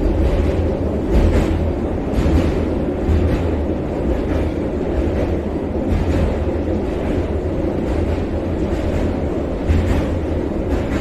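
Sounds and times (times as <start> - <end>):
train rumbling over bridge: 0.0 - 11.0.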